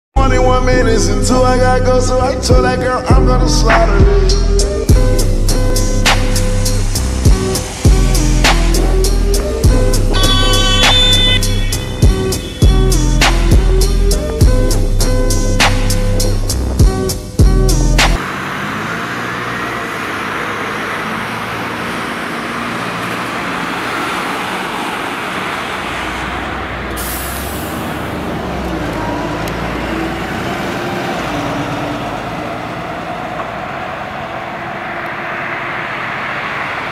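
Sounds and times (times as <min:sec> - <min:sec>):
road traffic rush: 0:00.2 - 0:36.9.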